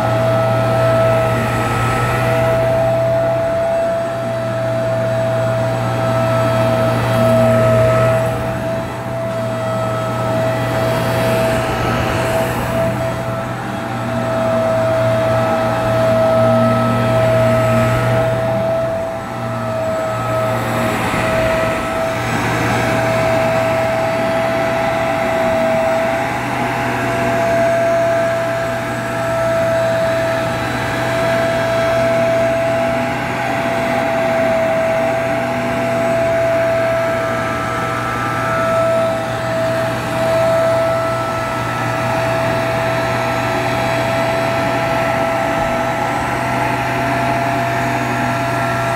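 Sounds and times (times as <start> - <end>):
carpet washer running: 0.0 - 48.9.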